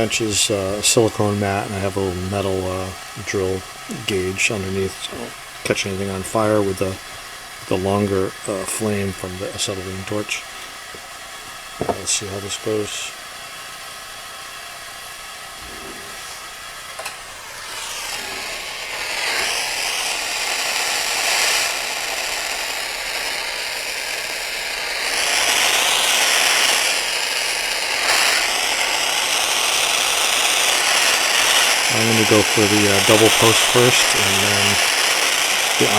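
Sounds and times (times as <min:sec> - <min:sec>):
torch flame hissing: 0:00.0 - 0:35.9.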